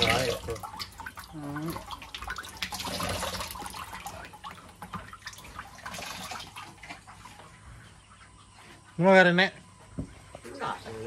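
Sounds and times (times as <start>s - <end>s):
water trickling and dripping: 0.0s - 9.0s.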